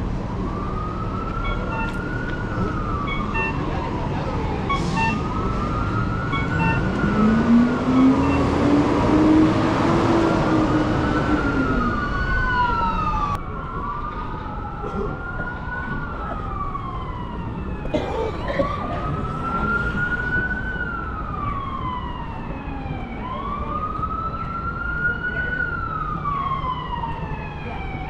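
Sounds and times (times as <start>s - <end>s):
emergency siren wailing: 0.0s - 28.0s
street traffic rumble: 0.0s - 28.0s.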